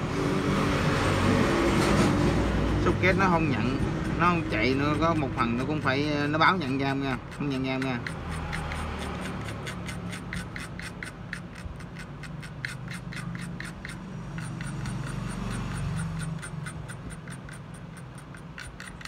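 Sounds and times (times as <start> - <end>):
rapid rubbing strokes: 1.5 - 19.0.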